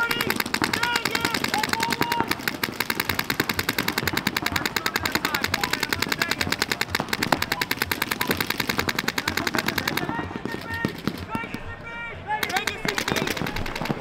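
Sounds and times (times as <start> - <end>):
paintball markers firing rapidly: 0.0 - 11.7, 12.3 - 14.0.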